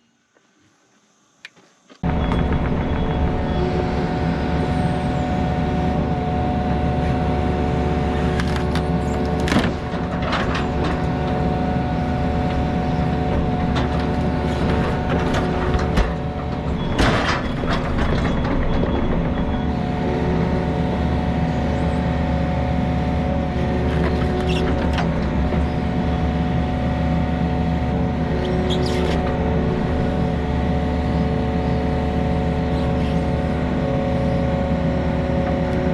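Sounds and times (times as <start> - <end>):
diesel engine running: 2.0 - 35.9.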